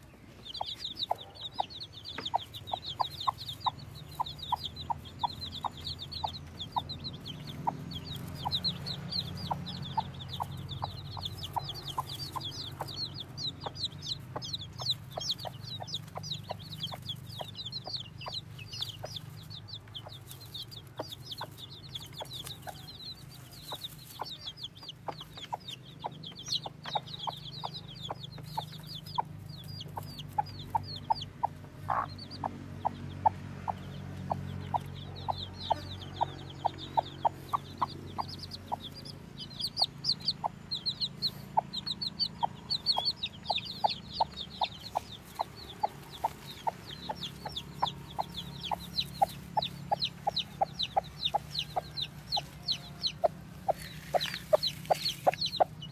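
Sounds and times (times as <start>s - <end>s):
hen clucking: 0.0s - 55.9s.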